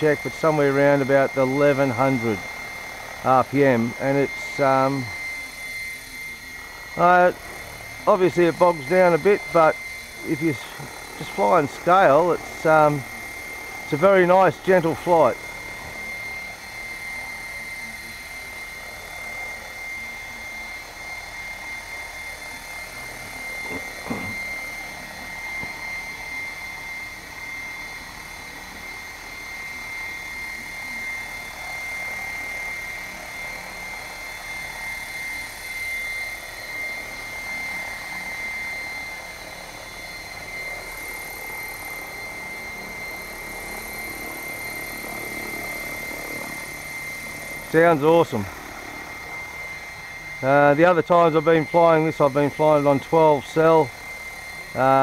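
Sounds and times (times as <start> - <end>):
rc helicopter high-pitched whine: 0.0 - 55.0.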